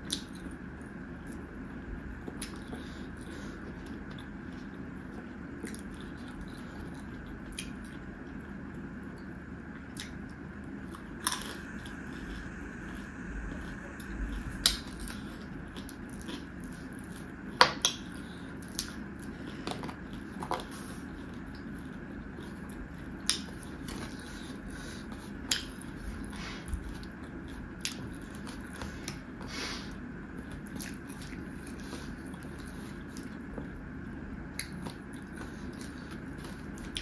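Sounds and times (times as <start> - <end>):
person chewing with wet clicks: 0.0 - 29.5, 30.2 - 37.0.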